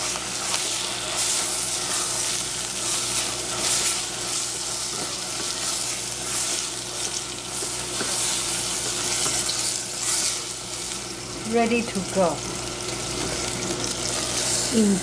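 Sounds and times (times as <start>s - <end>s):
spinach sizzling in a saucepan: 0.0s - 15.0s.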